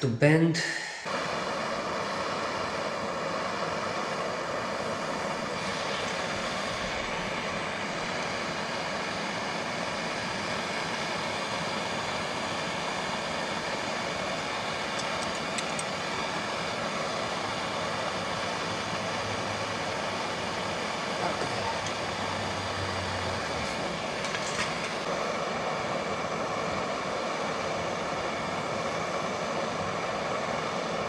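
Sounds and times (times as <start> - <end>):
propane torch hissing: 0.9 - 31.0.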